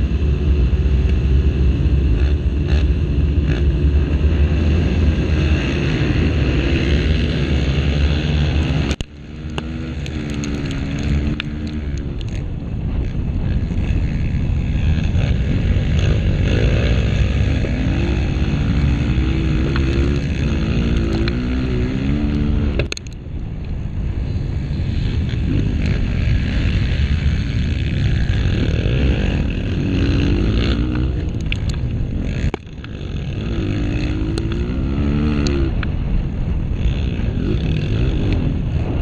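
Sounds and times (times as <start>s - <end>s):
dirt bike engine revving: 0.0s - 23.0s, 24.2s - 39.0s.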